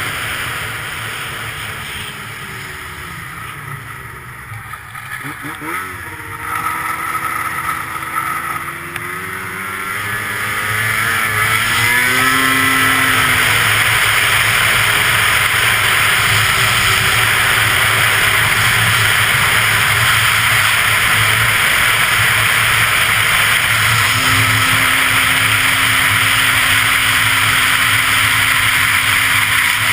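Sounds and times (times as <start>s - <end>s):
snowmobile engine running: 0.0s - 29.9s.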